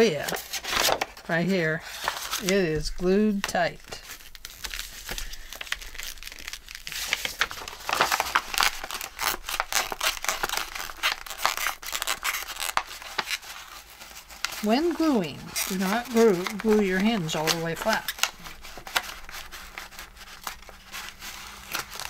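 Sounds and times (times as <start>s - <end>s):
paper crackling and tearing: 0.0s - 22.0s.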